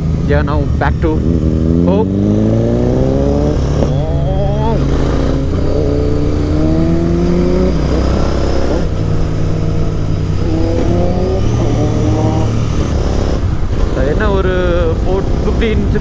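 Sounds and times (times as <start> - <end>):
motorcycle engine accelerating: 0.0 - 16.0
wind rushing over microphone: 0.0 - 16.0.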